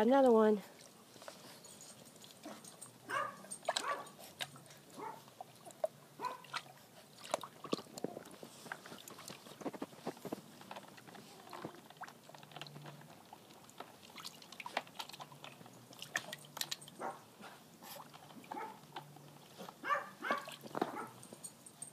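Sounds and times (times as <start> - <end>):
water sloshing: 0.2 - 21.3.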